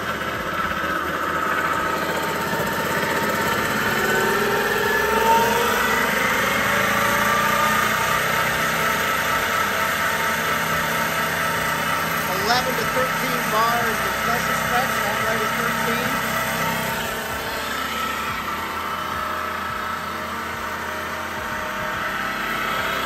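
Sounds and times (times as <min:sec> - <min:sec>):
marine transmission running: 0:00.0 - 0:23.0
transmission whine: 0:00.0 - 0:23.0.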